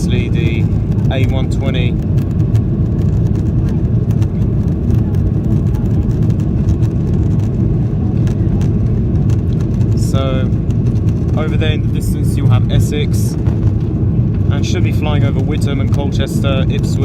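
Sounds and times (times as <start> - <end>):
jet engines at climb power: 0.0 - 17.0.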